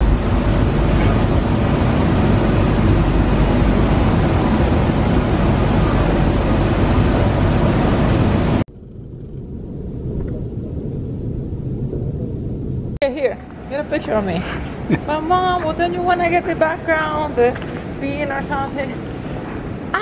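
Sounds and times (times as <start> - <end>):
station ambience hum: 0.0 - 20.0.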